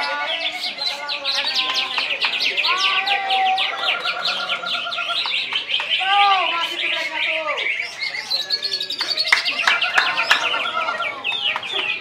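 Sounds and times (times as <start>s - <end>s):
bird trill: 0.0s - 12.0s
looping whistles: 0.0s - 12.0s
songbirds chirping: 0.0s - 12.0s.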